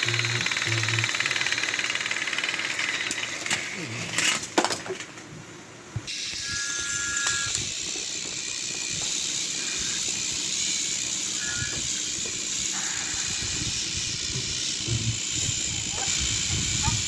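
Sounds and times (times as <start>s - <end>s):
toy train motors and wheels hissing: 0.0s - 4.4s, 6.1s - 17.0s.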